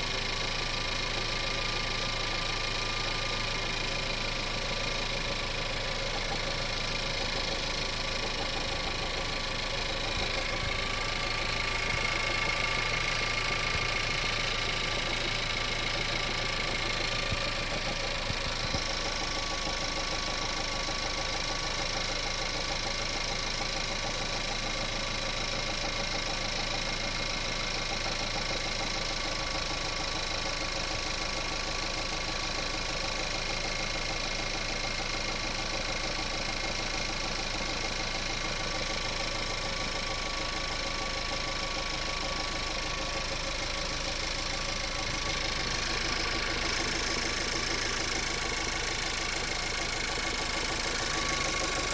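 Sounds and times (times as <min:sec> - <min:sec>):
car engine idling with knock: 0:00.0 - 0:51.9.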